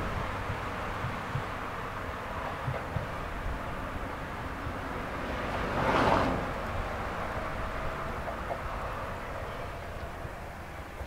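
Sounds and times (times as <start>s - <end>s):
electric train rumbling: 0.0s - 11.0s
train rushing noise: 0.0s - 11.0s.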